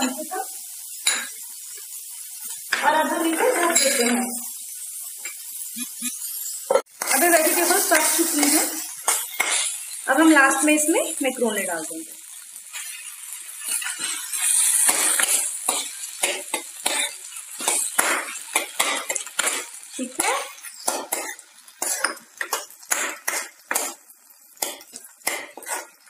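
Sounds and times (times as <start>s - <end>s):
food sizzling in pan: 0.0s - 26.0s.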